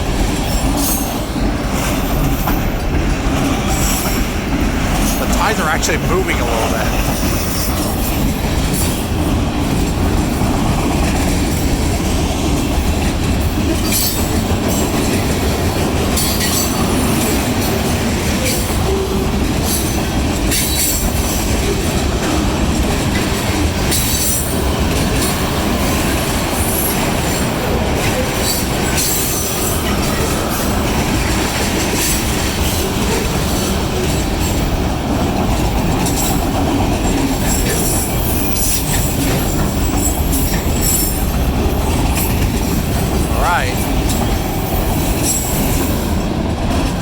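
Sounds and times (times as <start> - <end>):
steel wheels rumbling on rail: 0.0 - 5.2, 6.9 - 47.0.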